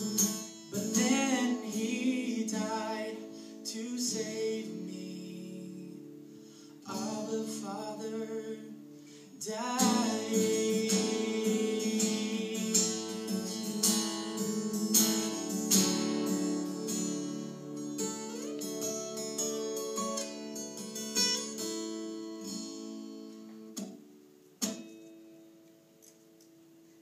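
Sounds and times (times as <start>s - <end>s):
acoustic guitar strumming chords: 0.0s - 25.7s.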